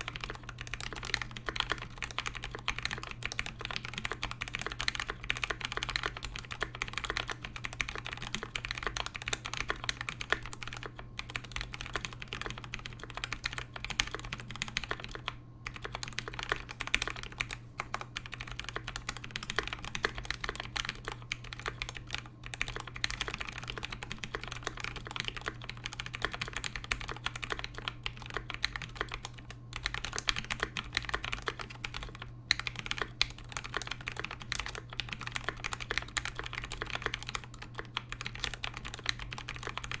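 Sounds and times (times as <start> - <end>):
fast typing on mechanical keyboard: 0.0 - 40.0.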